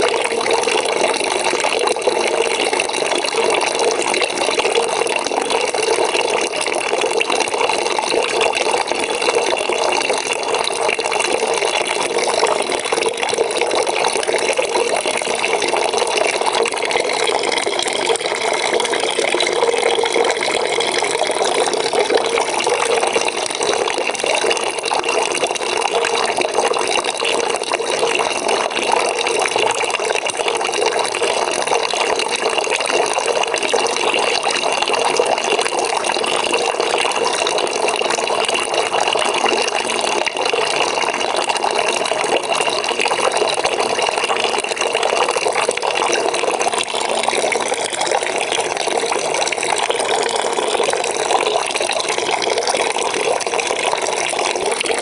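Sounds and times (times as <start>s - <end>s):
water pouring into bucket: 0.0s - 55.0s.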